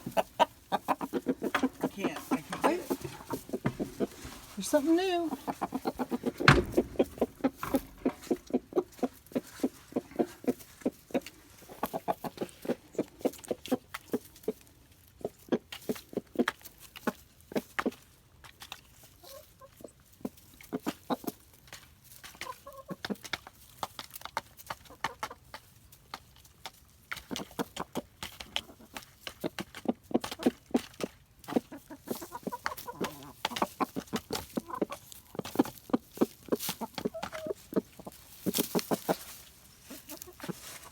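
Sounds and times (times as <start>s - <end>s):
hens clucking: 0.0s - 40.9s.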